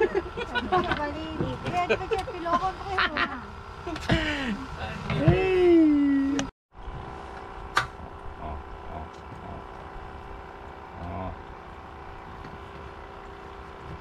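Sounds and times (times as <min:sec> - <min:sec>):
boat engine running: 0:00.0 - 0:14.0
wind: 0:00.0 - 0:14.0.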